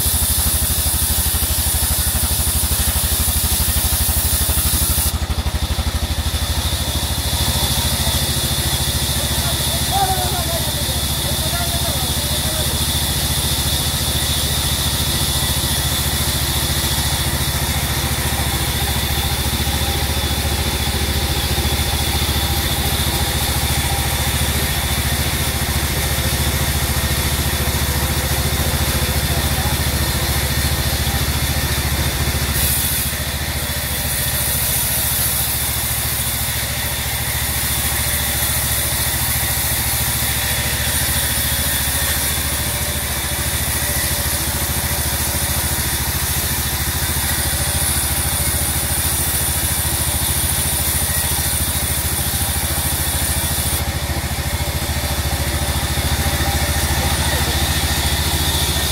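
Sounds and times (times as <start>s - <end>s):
band saw cutting a log: 0.0s - 58.9s.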